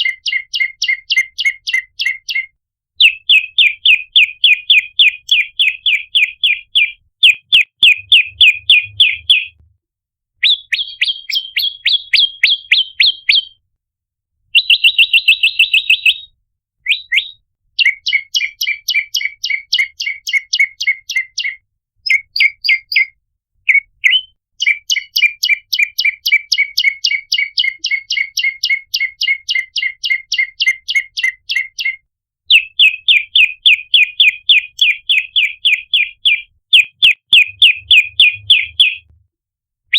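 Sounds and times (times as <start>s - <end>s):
bird chirping rapidly: 0.0s - 9.6s, 10.4s - 13.6s, 14.6s - 39.1s
bird trill: 0.0s - 9.6s, 10.4s - 13.6s, 14.6s - 39.1s.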